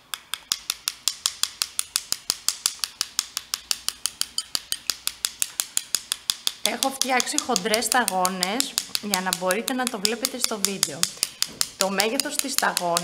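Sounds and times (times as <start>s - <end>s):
paintbrushes tapping together: 0.1s - 13.0s.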